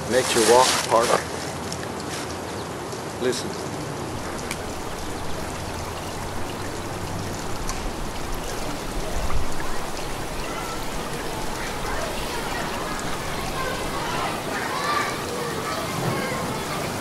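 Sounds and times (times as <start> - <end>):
stream trickling: 0.1 - 17.0.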